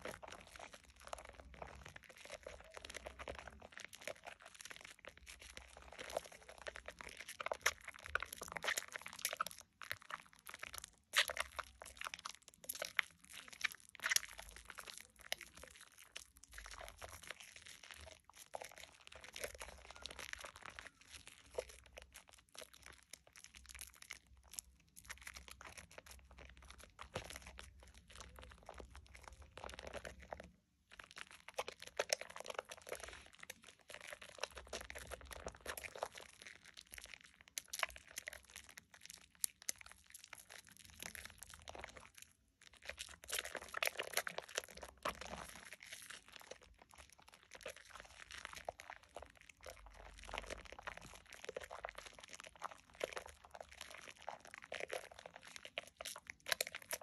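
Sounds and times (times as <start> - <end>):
soap lather squelching: 0.0 - 57.0.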